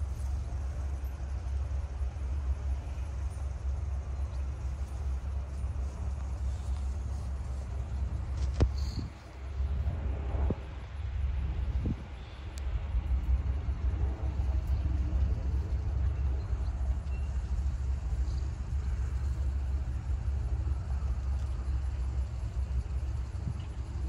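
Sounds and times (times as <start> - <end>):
wind buffeting microphone: 4.5 - 24.0.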